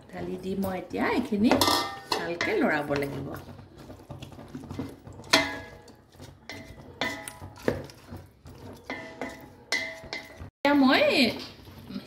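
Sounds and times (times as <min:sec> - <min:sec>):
utensil scraping metal pot: 0:00.1 - 0:12.0.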